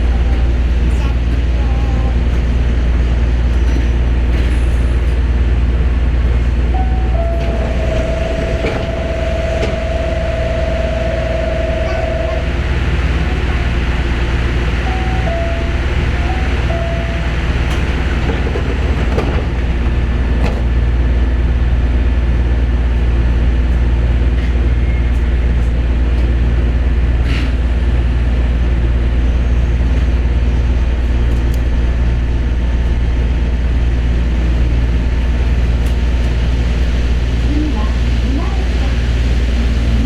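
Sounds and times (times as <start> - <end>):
monorail train motors humming: 0.0 - 40.0.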